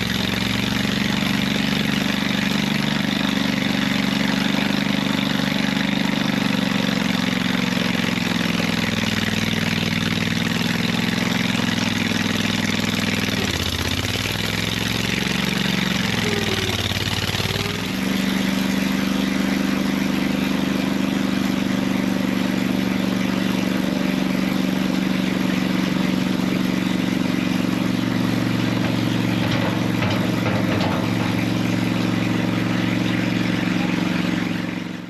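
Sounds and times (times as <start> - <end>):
loader engine running: 0.0 - 35.0.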